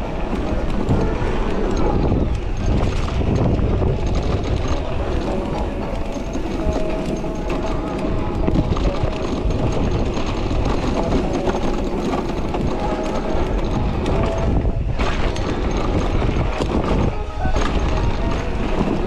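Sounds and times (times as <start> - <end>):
bike rattling and knocking: 0.0 - 19.0
wind rushing on microphone: 0.0 - 19.0.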